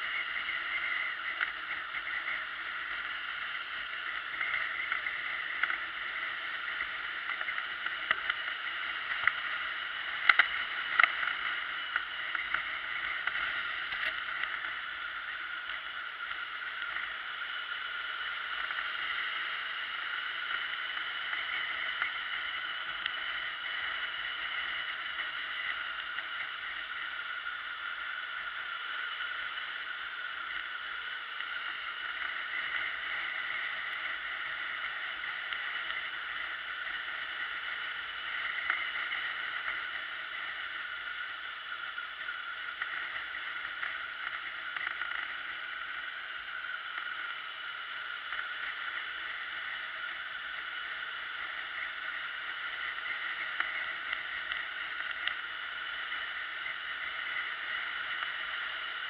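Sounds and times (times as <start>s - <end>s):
motorcycle riding at speed: 0.0s - 59.0s
small ticks: 0.0s - 59.0s.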